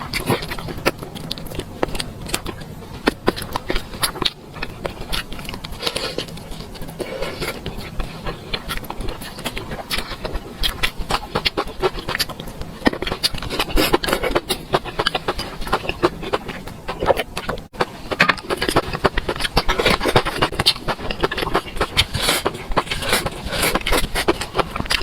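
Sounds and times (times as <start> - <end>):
chewing and mouth clicks: 0.0 - 25.0.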